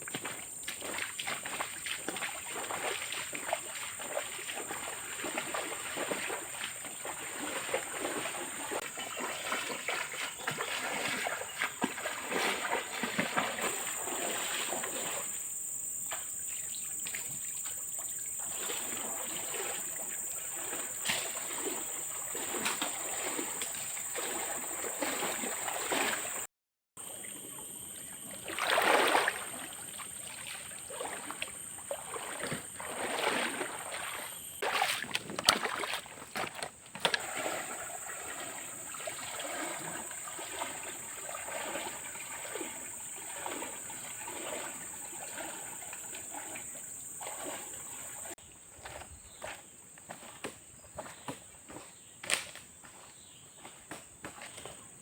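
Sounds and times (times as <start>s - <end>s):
water splashing and trickling: 0.0s - 54.7s.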